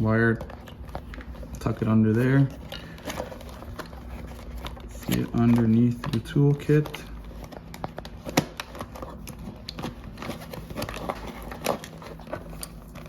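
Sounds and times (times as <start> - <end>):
plastic parts clicking and rustling: 0.0 - 13.0.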